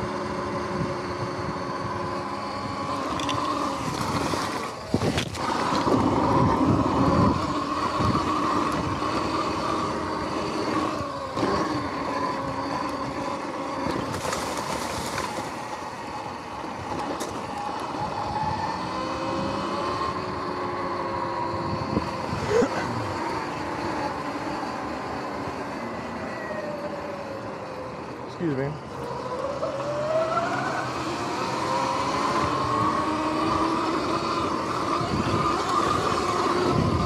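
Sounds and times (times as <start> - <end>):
electric motor whining: 0.0 - 37.0.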